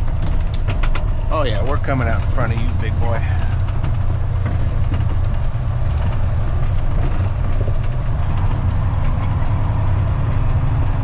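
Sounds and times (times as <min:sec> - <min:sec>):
light rattles and clicks: 0:00.0 - 0:11.0
truck diesel engine droning: 0:00.0 - 0:11.0.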